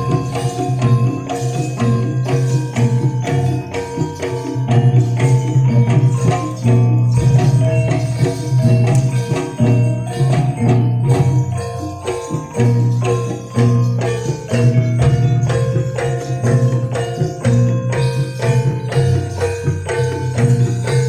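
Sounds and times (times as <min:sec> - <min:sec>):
drums: 0:00.0 - 0:21.0
jingling percussion: 0:00.0 - 0:21.0
metallophones ringing: 0:00.0 - 0:21.0.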